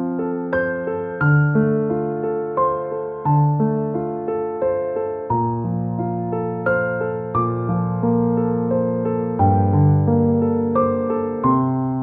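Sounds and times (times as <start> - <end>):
gentle keyboard music: 0.0 - 12.0.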